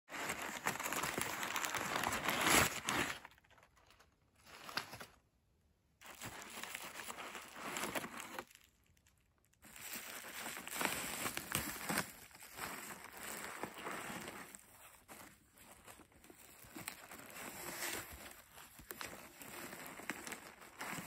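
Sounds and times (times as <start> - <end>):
paper and bubble wrap crinkling: 0.1 - 5.3, 6.0 - 21.0.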